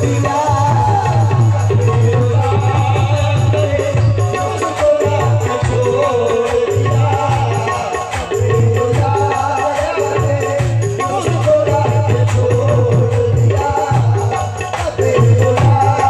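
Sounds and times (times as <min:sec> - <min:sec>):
hand drum rhythm: 0:00.0 - 0:16.0
harmonium melody: 0:00.0 - 0:16.0.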